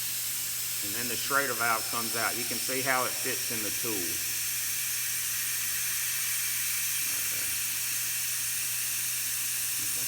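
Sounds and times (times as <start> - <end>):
air hissing from tire valve: 0.0 - 10.0.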